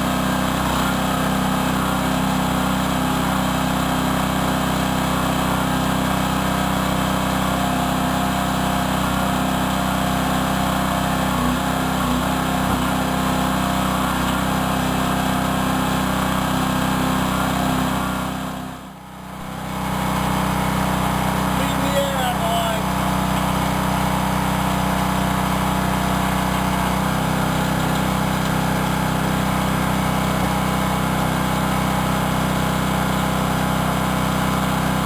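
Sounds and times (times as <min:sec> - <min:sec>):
small engine running steadily: 0:00.0 - 0:35.0.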